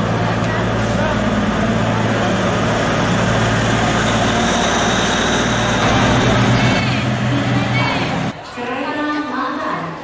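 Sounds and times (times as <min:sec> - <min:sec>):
diesel train engine idling: 0:00.0 - 0:08.3.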